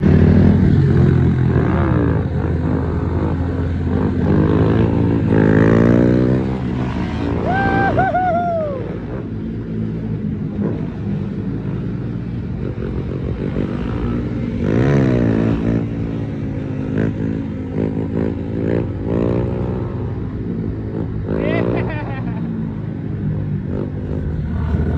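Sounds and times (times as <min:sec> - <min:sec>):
small motorcycle engines revving: 0:00.0 - 0:24.9.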